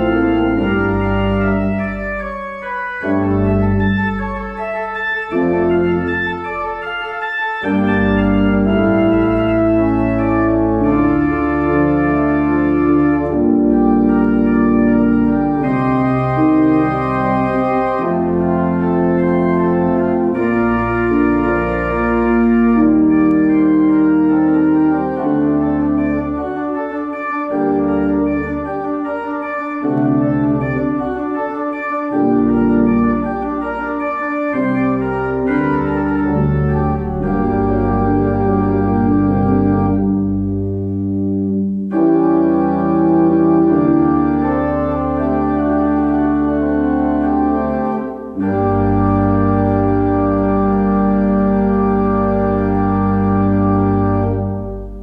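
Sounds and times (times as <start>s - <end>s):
organ chords: 0.0s - 55.0s.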